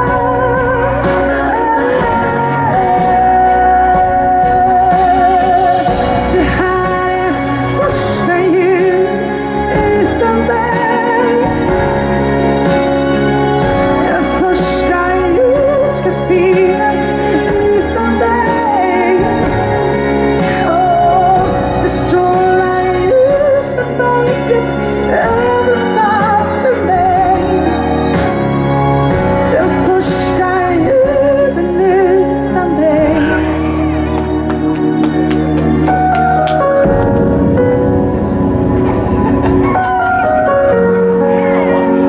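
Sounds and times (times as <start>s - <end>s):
woman singing into microphone: 0.0s - 12.8s, 13.9s - 28.4s, 29.1s - 36.0s
instrumental accompaniment: 0.0s - 42.0s.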